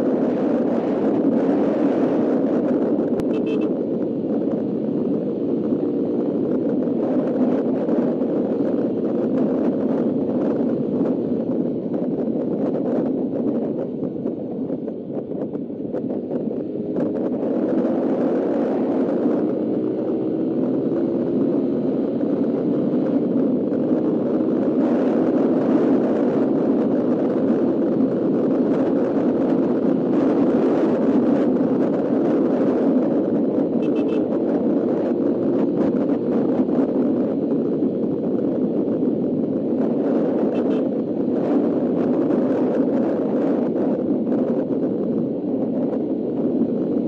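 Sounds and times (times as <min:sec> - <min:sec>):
motorcycle engine running: 0:00.0 - 0:43.0
wind noise: 0:00.0 - 0:47.0.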